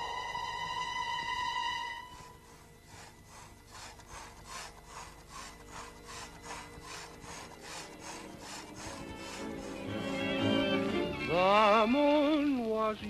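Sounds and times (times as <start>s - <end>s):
rhythmic dry scraping strokes: 0.0s - 11.9s
faint low hum: 0.0s - 13.0s.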